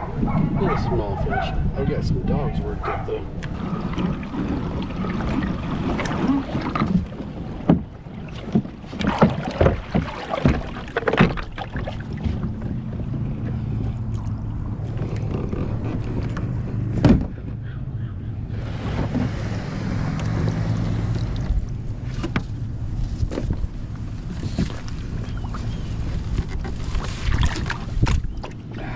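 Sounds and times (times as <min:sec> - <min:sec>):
wind rumbling on microphone: 0:00.0 - 0:28.9.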